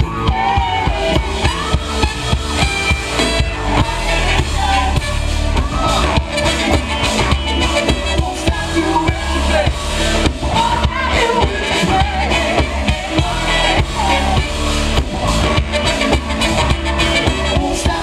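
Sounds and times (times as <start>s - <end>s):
live funk band: 0.0s - 18.0s.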